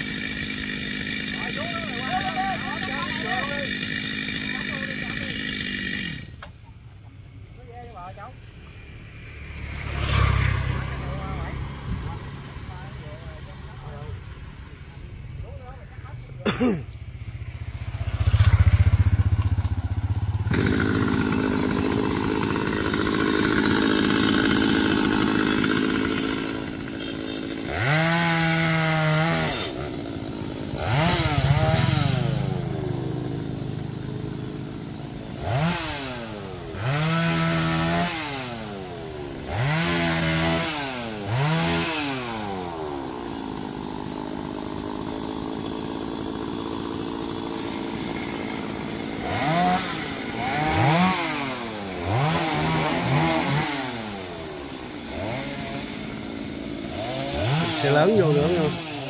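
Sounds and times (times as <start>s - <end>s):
chainsaw revving and idling: 0.0s - 6.6s, 7.7s - 59.0s.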